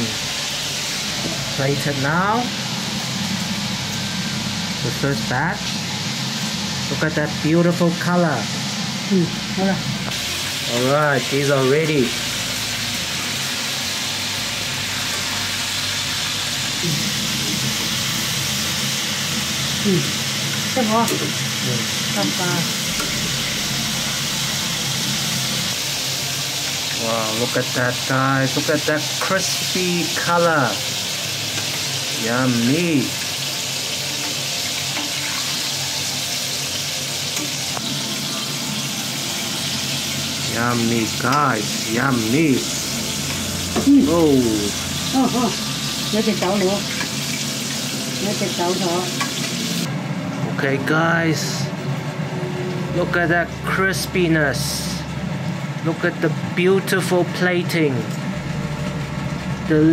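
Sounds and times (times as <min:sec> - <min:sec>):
oil sizzling and bubbling: 0:00.0 - 0:59.9.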